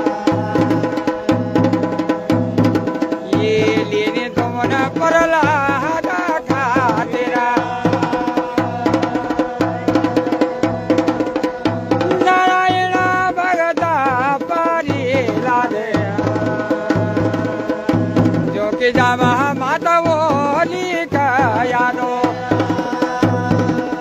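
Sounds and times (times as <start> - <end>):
folk drumming: 0.0 - 24.0.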